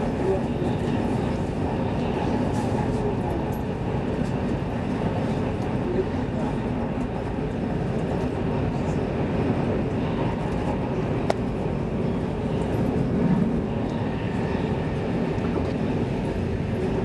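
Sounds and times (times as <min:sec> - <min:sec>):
train running noise inside carriage: 0:00.0 - 0:17.0.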